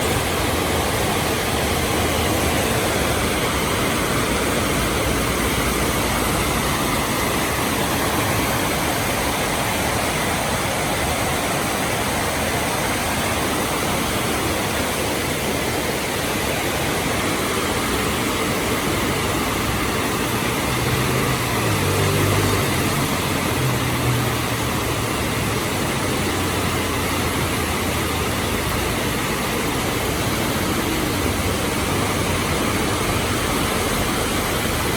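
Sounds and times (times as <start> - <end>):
vehicle engine humming low: 0.0 - 13.1, 16.9 - 34.9
heavy rain hissing: 0.0 - 34.9.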